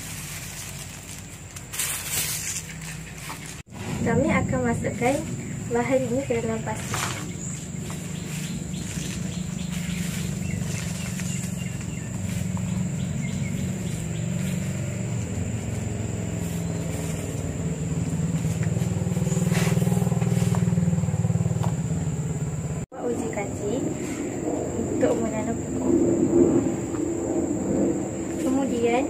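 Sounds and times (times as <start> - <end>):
engine running: 0.0 - 29.0.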